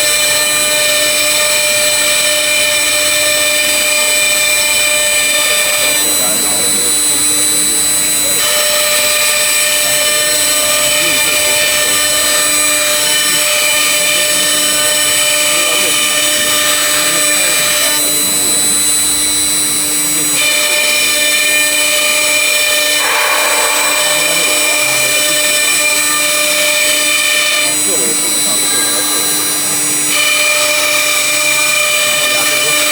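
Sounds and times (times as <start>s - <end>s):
cnc router spindle cutting: 0.0s - 32.9s.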